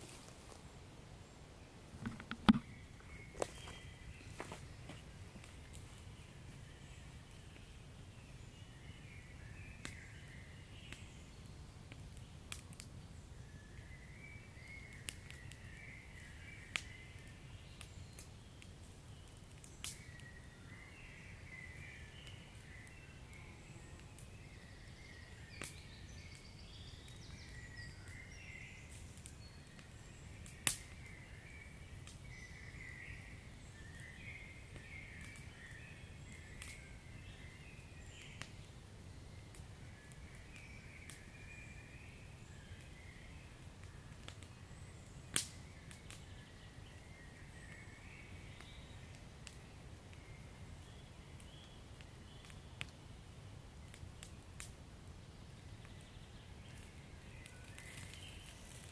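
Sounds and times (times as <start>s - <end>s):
wood fire crackling: 0.0s - 58.9s
fire popping: 1.9s - 8.2s, 9.8s - 13.9s, 14.6s - 32.6s, 33.3s - 41.3s, 41.9s - 47.0s, 48.5s - 58.9s.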